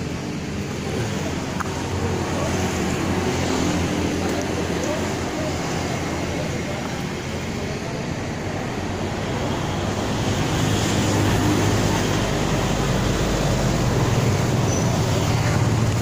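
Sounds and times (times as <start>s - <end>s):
motor vehicle engine hum: 0.0s - 16.0s.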